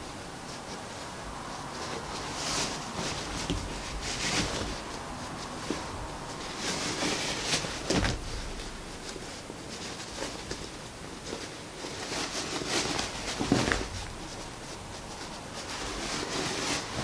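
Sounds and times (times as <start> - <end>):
fabric rustling and swishing: 0.0 - 17.0.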